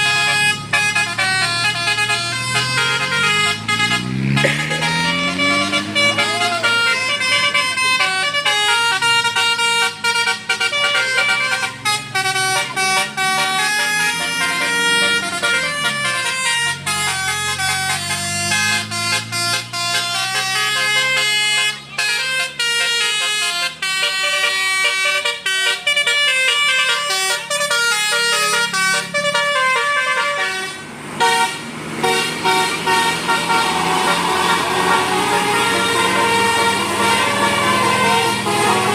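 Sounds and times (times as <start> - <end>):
musical bus horn melody: 0.0 - 38.9
vehicle engine: 0.0 - 38.9.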